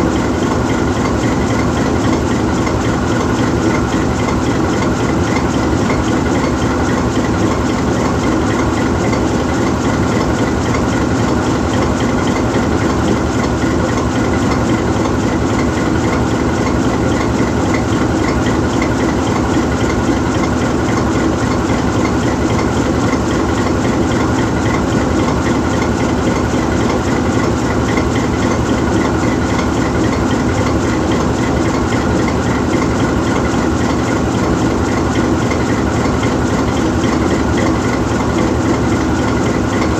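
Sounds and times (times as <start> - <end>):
diesel locomotive engine idling: 0.0 - 39.9.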